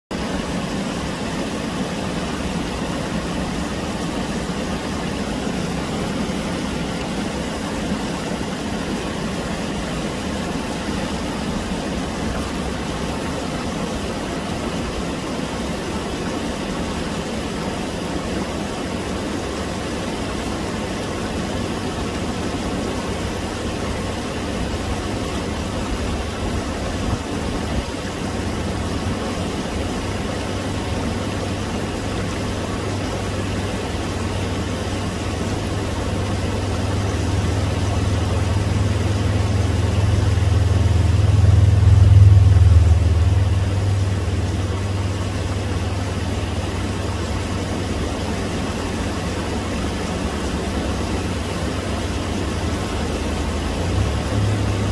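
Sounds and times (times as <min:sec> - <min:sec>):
creek water rushing over rocks: 0:00.1 - 0:54.9.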